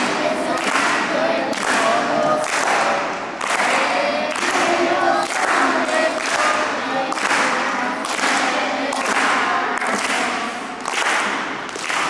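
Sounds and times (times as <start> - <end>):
group of voices singing: 0.0 - 11.4.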